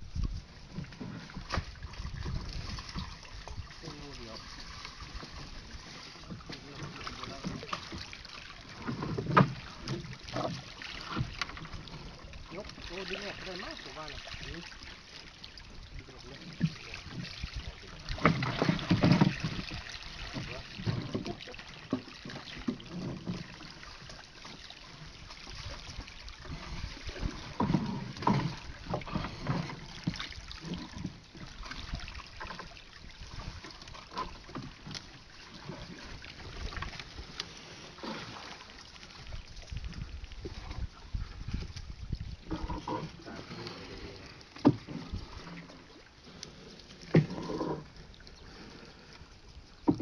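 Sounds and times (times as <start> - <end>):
wooden boat knocks and scrapes: 0.0 - 14.6, 16.4 - 46.1, 46.8 - 48.2, 49.8 - 50.0.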